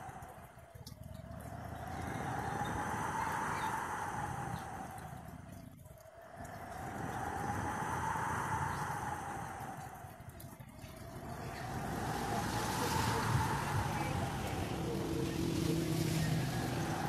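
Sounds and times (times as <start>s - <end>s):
whistling wind tone: 0.0s - 17.0s
wind gusting through trees: 0.0s - 17.0s.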